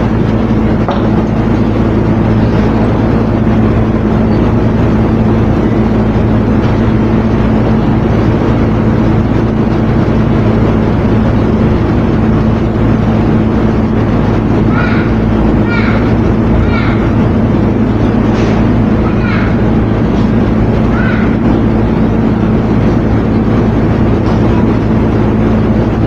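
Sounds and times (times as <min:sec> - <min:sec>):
noisy hiss: 0:00.0 - 0:26.0
steady machine hum: 0:00.0 - 0:26.0.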